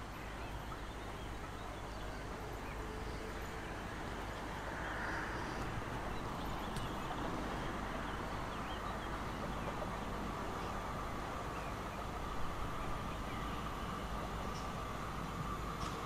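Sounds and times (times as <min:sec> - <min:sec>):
train rumble and hiss: 0:00.0 - 0:16.0.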